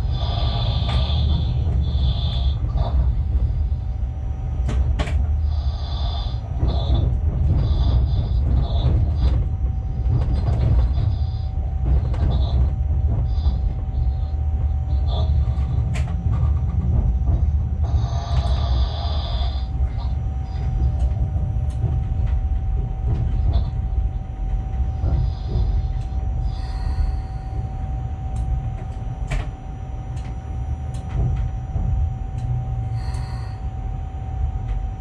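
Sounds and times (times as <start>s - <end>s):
locomotive running gear rumble: 0.0s - 35.0s.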